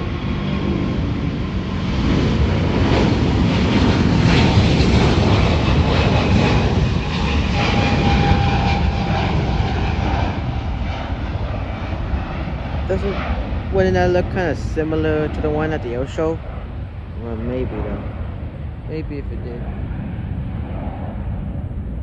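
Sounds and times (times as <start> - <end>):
jet airliner roaring past: 0.0 - 22.0.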